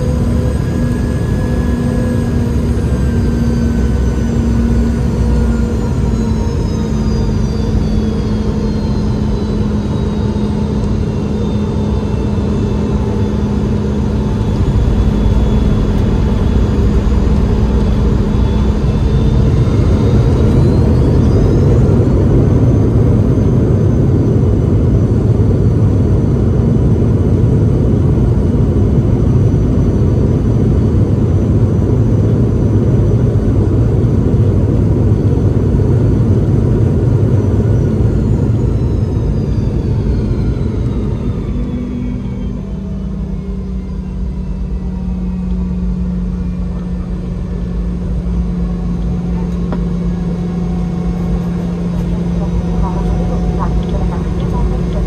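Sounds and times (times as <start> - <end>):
jet engine rumble with high whine: 0.0 - 55.0.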